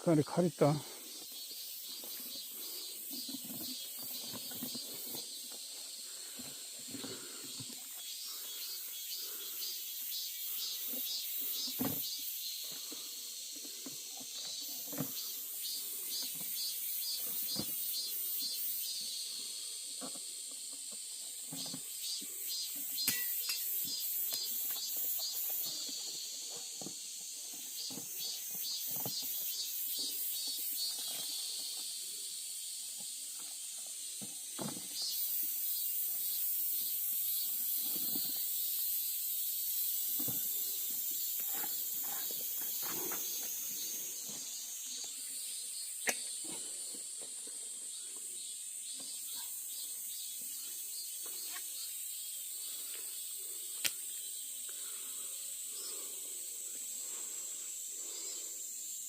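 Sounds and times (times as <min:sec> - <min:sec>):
cicadas calling: 0:00.0 - 0:59.0.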